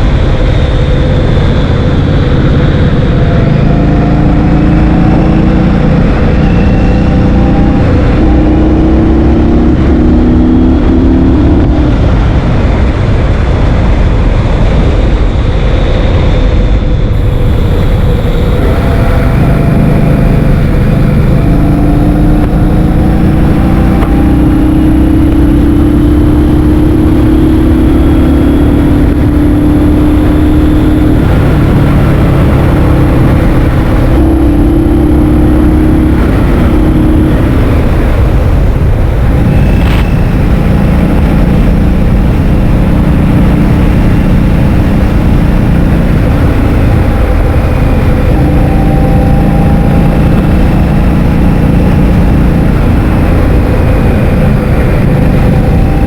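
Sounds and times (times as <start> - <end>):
motor scooter engine: 0.0 - 56.0
wind buffeting microphone: 0.0 - 56.0.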